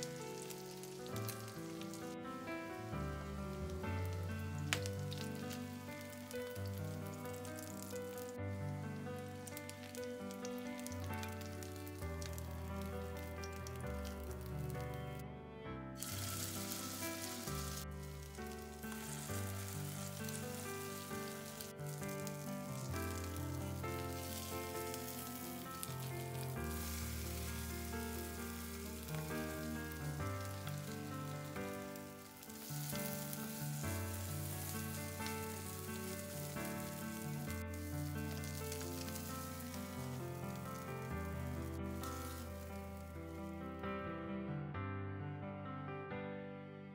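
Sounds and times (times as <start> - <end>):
patties sizzling in oil: 0.0 - 15.2, 16.0 - 43.8.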